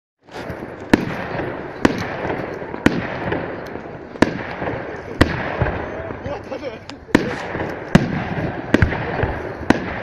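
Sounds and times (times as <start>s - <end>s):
fireworks bangs: 0.2s - 10.0s
continuous din of noise: 0.3s - 10.0s.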